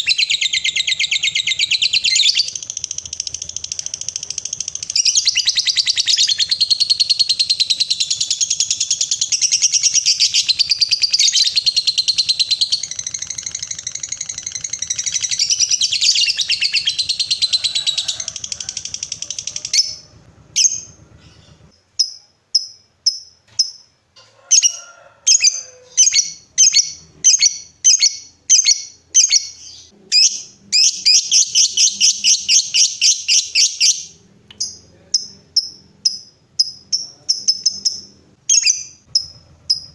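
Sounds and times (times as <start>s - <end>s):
lovebird chattering trill: 0.0s - 23.8s, 25.3s - 39.9s
bird high chirps: 0.0s - 23.9s, 25.3s - 39.9s.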